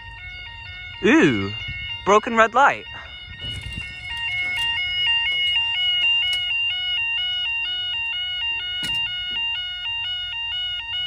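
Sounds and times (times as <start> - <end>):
two-tone electronic alarm: 0.0 - 11.0.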